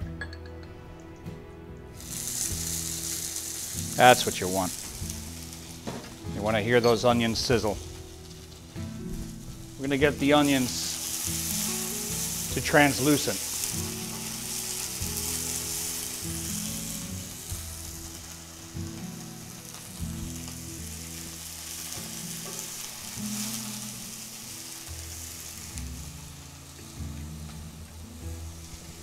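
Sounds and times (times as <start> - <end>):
onions sizzling in oil: 2.0 - 29.0.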